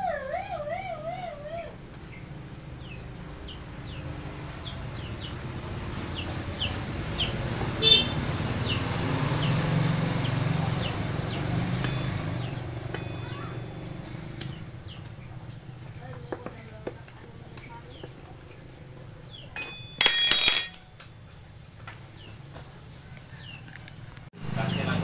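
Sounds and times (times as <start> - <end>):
motor vehicle humming: 0.0 - 25.0.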